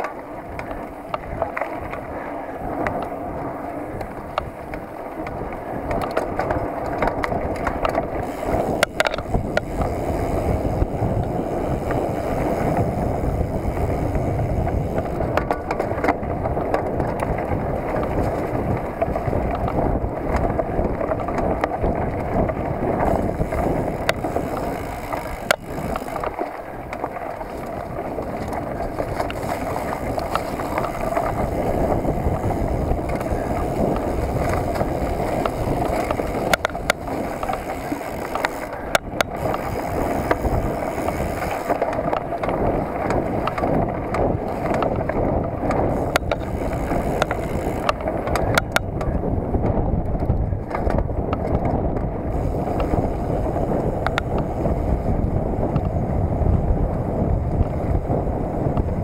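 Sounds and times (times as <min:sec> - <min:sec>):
bike rattling: 0:00.0 - 0:59.0
tyres rumbling on dirt trail: 0:00.0 - 0:59.0.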